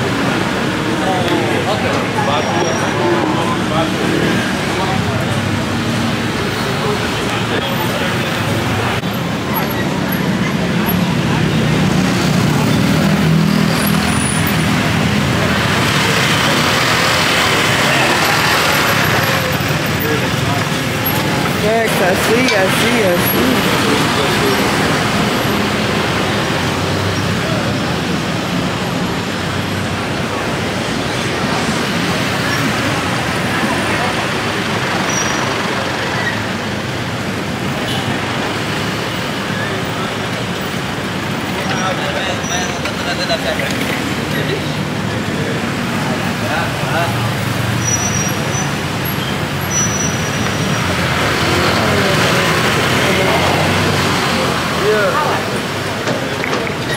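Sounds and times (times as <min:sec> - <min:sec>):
road traffic rush: 0:00.0 - 0:56.9.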